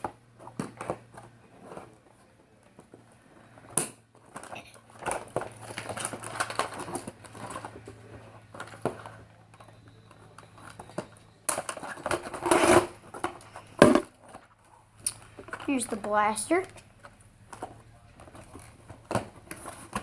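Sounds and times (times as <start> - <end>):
packaging crackling and rustling: 0.0 - 20.0.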